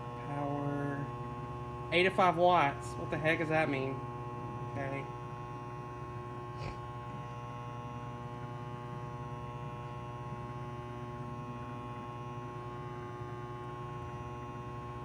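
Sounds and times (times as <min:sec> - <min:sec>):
microwave electrical buzz and hum: 0:00.0 - 0:15.0.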